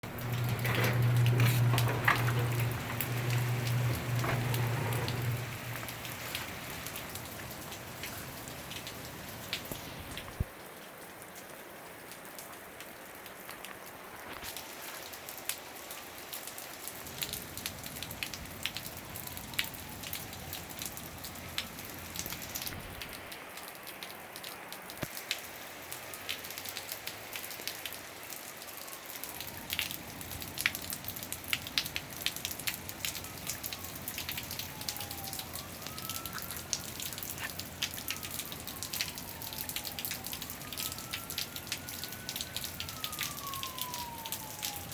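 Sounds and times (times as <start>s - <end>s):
hail hitting hard surfaces: 0.0s - 44.9s.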